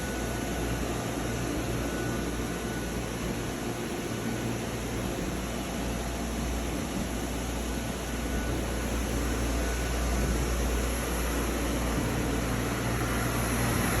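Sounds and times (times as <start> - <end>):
machine humming with fan hiss: 0.0 - 14.0.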